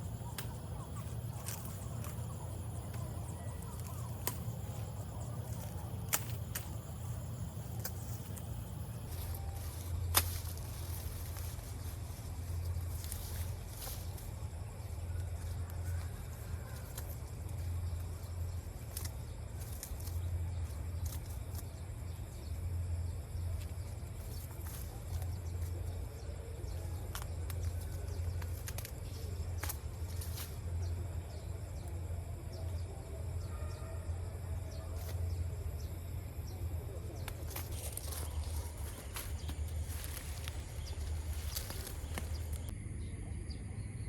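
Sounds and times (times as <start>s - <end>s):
faint bird chirps: 0.0s - 44.0s.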